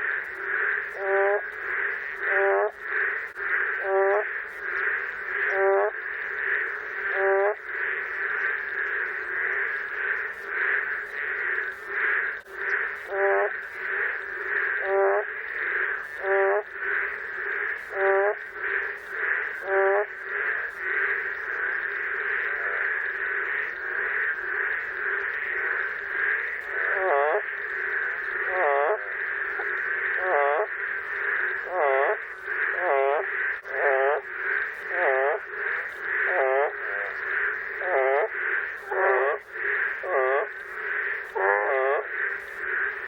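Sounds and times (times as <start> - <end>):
frog calling hoarsely: 0.0 - 43.0
high frog chorus: 0.0 - 43.0.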